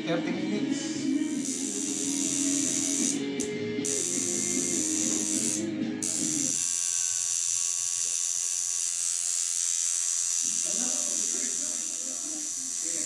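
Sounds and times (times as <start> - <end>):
tattoo machine buzzing: 1.2 - 13.0.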